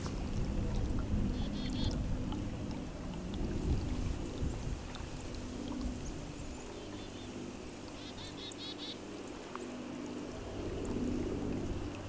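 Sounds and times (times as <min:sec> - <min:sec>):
creek water gurgling: 0:00.0 - 0:12.0.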